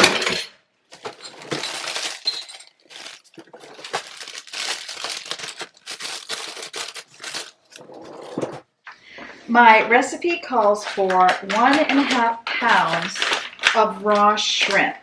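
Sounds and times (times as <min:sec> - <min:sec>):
plastic bag crinkling: 0:00.9 - 0:08.6, 0:10.5 - 0:14.8.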